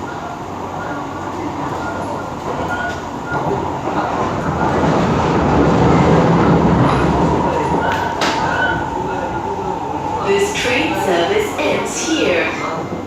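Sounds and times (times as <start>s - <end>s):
metro train running rumble: 0.0s - 13.0s.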